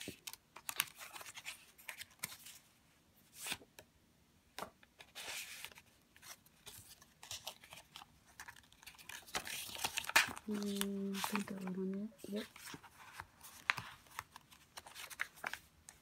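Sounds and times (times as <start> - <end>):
paper rustling: 0.0 - 2.7, 5.0 - 16.0.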